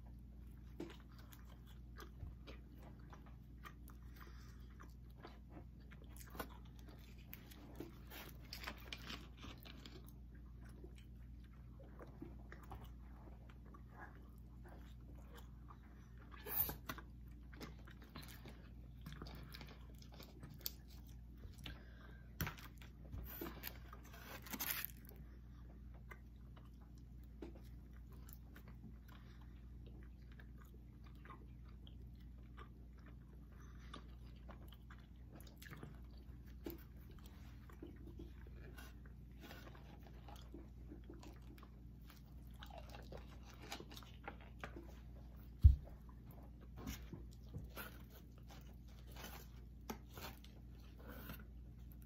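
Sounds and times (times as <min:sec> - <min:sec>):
people chewing food: 0:00.0 - 0:52.0.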